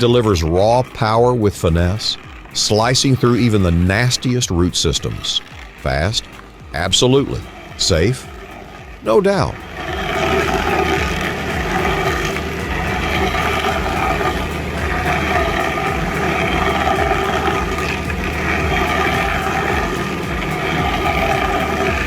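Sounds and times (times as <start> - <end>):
heavy machinery engine drone: 0.0 - 22.0.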